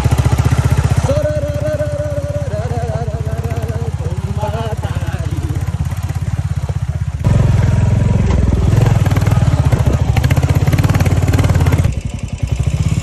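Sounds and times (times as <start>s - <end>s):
motorcycle engine running under load: 0.0s - 13.0s.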